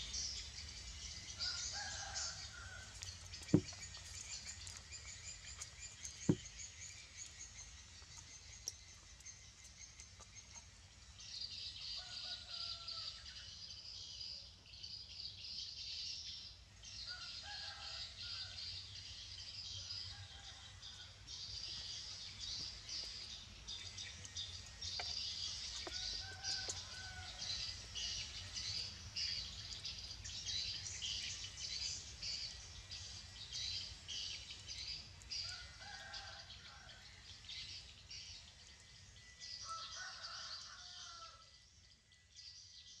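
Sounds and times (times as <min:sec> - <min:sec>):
small birds chirping: 0:00.0 - 0:17.8, 0:21.3 - 0:43.0.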